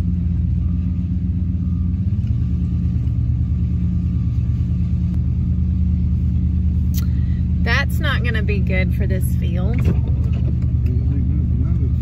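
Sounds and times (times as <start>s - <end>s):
road noise: 0.0s - 12.0s
truck engine rumble: 0.0s - 12.0s.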